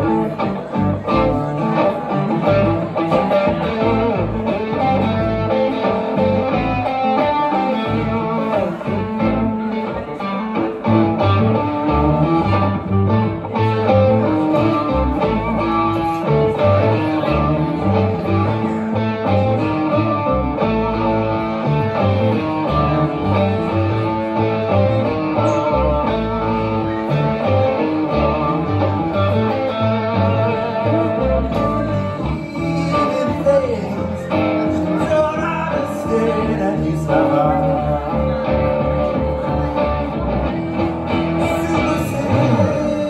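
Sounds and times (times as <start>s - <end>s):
pulsing bass line: 0.0s - 6.9s, 7.7s - 9.7s, 10.8s - 43.0s
electric guitar playing: 0.0s - 43.0s.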